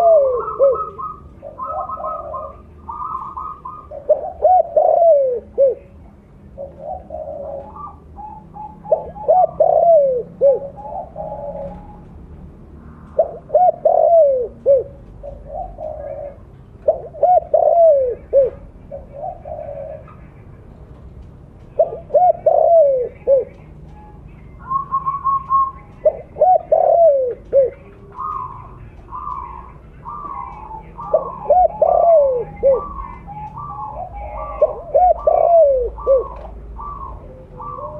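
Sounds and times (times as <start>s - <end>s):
higher-pitched dove cooing: 0.0s - 6.0s, 6.6s - 12.2s, 13.1s - 20.3s, 21.7s - 37.9s
dove cooing: 0.0s - 12.2s, 13.0s - 20.4s, 21.6s - 37.9s.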